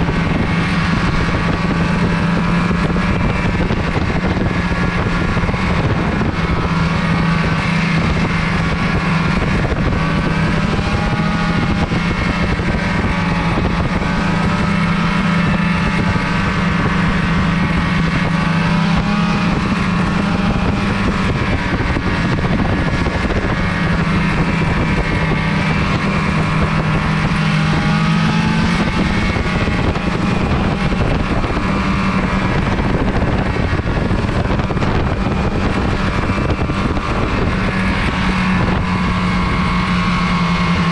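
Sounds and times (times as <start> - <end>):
snowmobile engine droning: 0.0 - 40.9
wind on microphone: 0.0 - 40.9.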